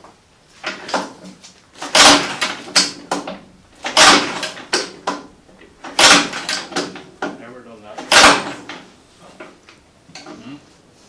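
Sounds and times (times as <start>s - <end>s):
engine turned over by hand: 0.6s - 7.4s, 8.0s - 10.4s.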